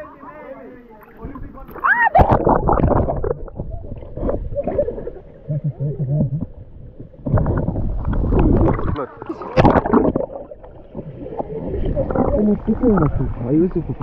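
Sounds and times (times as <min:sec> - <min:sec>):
underwater gurgling and sloshing: 0:00.0 - 0:14.0.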